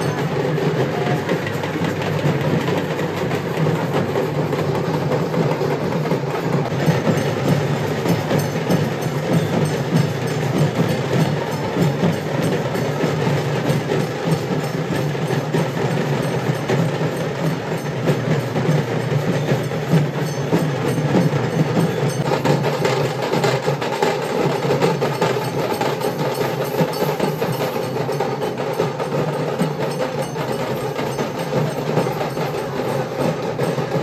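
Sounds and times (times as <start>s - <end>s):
rapid dense drumming: 0.0s - 34.0s.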